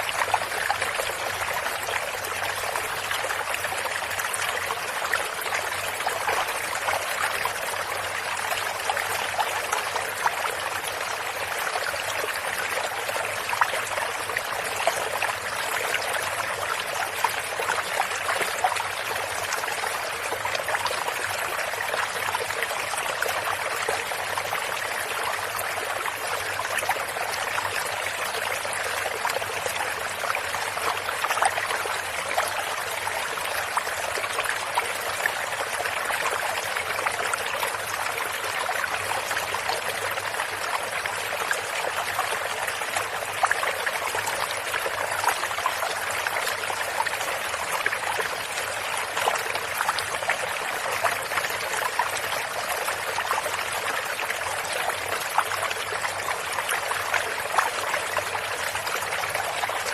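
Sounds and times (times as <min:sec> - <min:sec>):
stream water over stones: 0:00.0 - 0:59.9.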